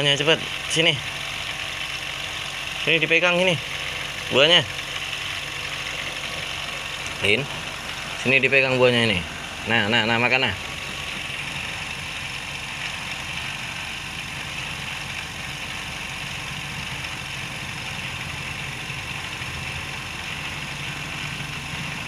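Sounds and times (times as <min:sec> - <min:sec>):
machine hum: 0:02.7 - 0:22.0.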